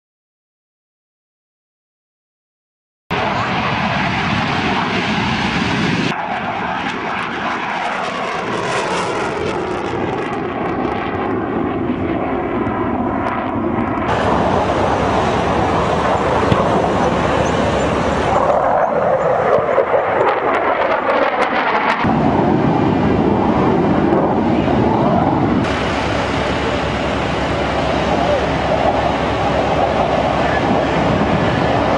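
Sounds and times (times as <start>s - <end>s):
jet engine rushing: 3.1s - 31.9s.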